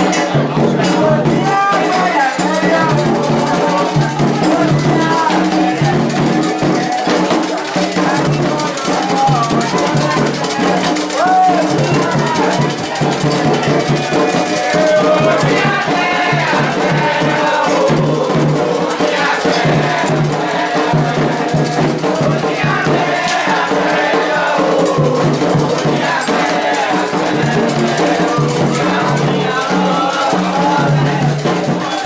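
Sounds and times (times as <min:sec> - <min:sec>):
percussion: 0:00.0 - 0:32.0
shaken rattles: 0:00.0 - 0:32.0
voices singing a chant: 0:00.0 - 0:32.0.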